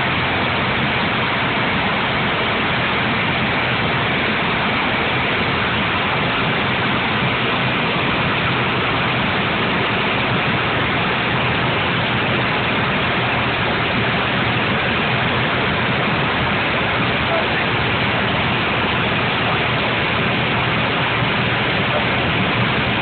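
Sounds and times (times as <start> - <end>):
aircraft engines roaring: 0.0 - 23.0
rushing air in cabin: 0.0 - 23.0.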